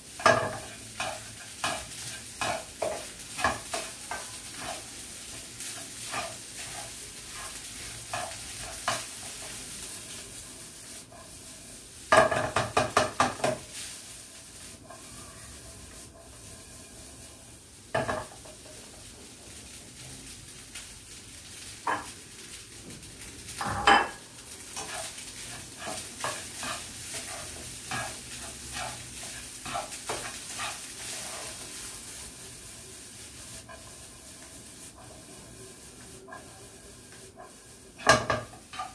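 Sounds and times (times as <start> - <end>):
rice sizzling in frying pan: 0.0 - 38.9
spatula scraping and tapping pan: 0.1 - 17.2, 17.9 - 19.8, 21.6 - 32.2, 33.4 - 38.9.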